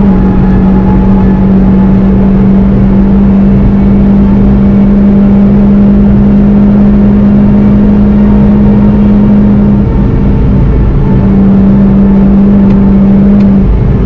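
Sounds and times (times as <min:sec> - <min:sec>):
car engine droning at high revs: 0:00.0 - 0:14.0
road and wind noise: 0:00.0 - 0:14.0.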